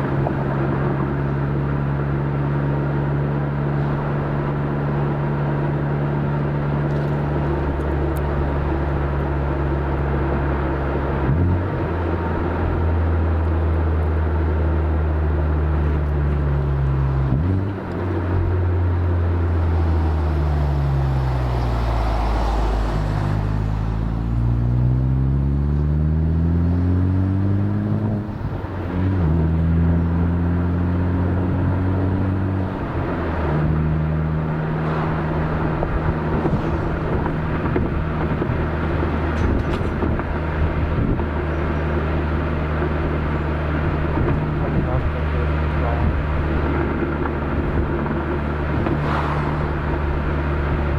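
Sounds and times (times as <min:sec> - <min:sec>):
car exhaust while driving: 0:00.0 - 0:50.9.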